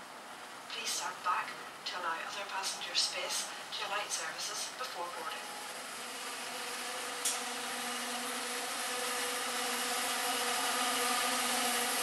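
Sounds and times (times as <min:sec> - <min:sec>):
train approaching: 0:02.0 - 0:12.0.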